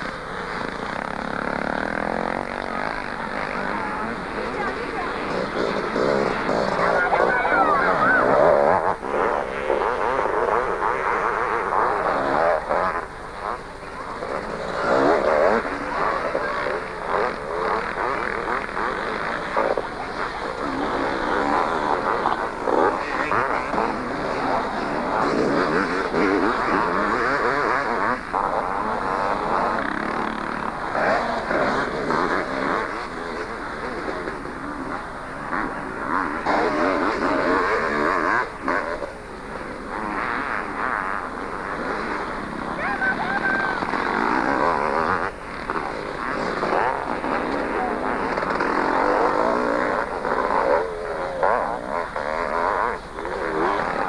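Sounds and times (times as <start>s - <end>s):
motocross bikes revving: 0.0s - 54.0s.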